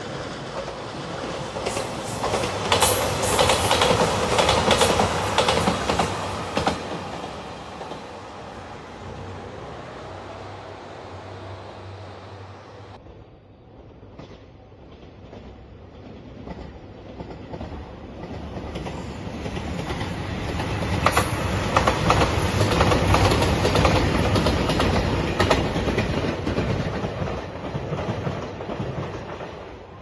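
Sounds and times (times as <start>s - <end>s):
diesel train passing: 0.0s - 30.0s.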